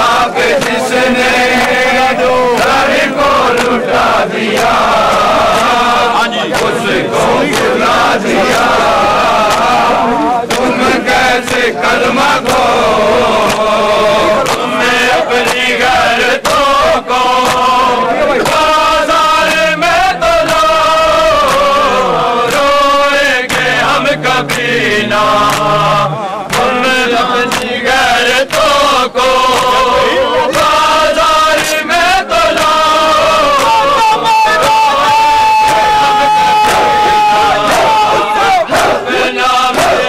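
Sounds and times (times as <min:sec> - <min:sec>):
voices chanting: 0:00.0 - 0:40.0.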